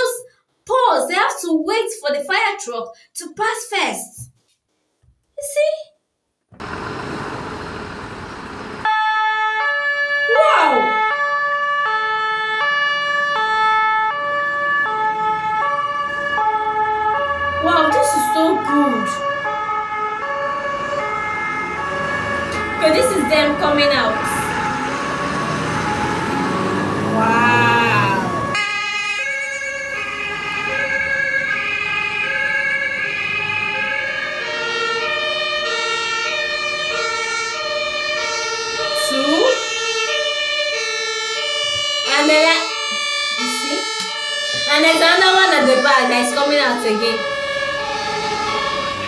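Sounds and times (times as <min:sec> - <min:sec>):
two-tone fire engine siren: 0:06.6 - 0:49.0.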